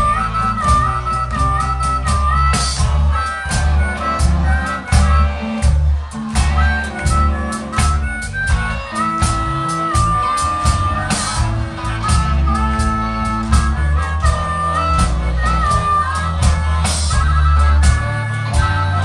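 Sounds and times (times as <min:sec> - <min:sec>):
bass guitar: 0:00.0 - 0:19.0
electric guitars: 0:00.0 - 0:19.0
harmonica playing held notes: 0:00.0 - 0:19.0
steady drum beat: 0:00.0 - 0:19.0.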